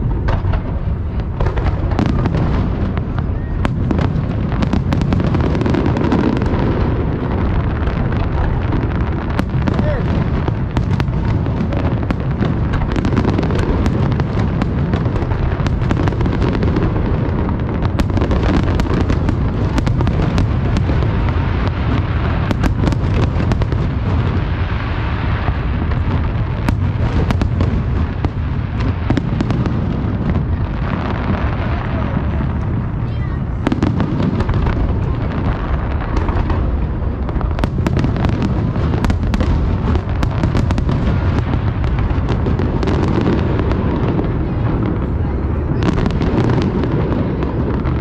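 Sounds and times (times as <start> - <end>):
fireworks booming and crackling: 0.0 - 48.0.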